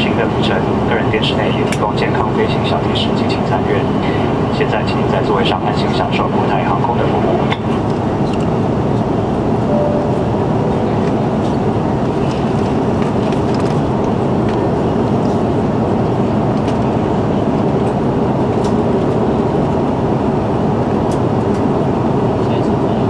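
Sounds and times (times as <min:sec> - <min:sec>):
airplane cabin roar: 0:00.0 - 0:23.0.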